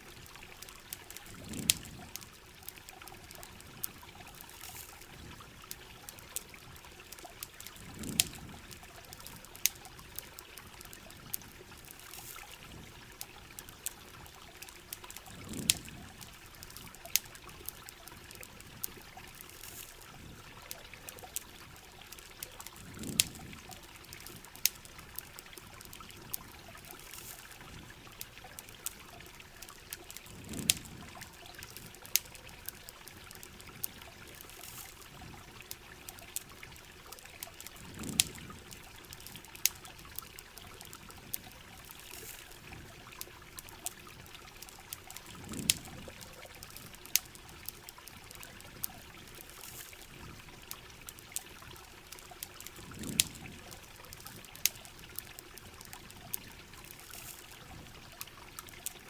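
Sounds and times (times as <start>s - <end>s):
campfire crackling and popping: 0.0s - 59.0s
steady rain: 0.0s - 59.0s
trickling pouring water: 0.0s - 59.0s.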